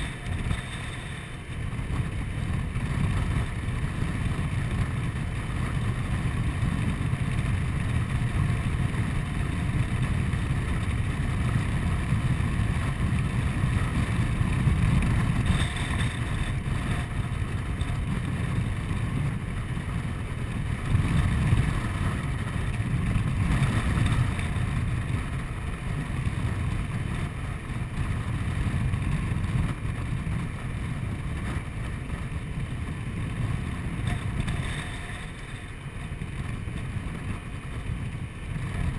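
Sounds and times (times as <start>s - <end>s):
scooter engine running: 0.0s - 38.9s
wind buffeting microphone: 0.0s - 38.9s.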